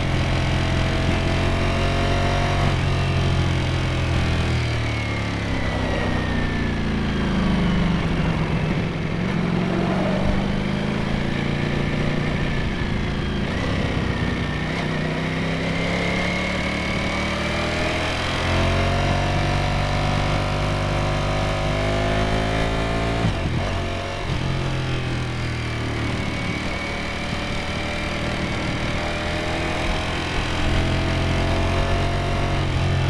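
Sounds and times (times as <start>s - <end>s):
motorcycle engine and exhaust: 0.0s - 33.0s.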